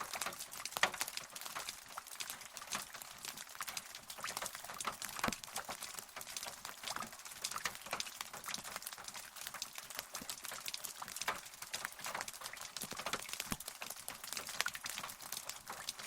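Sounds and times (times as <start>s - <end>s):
raindrops pattering: 0.0s - 16.0s
soft rain hiss: 0.0s - 16.0s.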